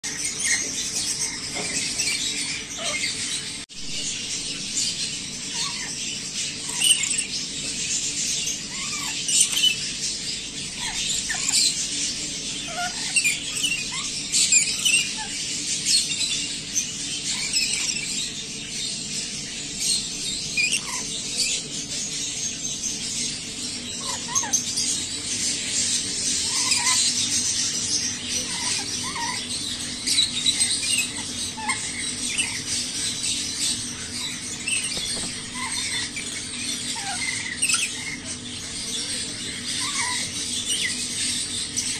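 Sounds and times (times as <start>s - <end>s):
parrots chattering: 0.0s - 41.9s.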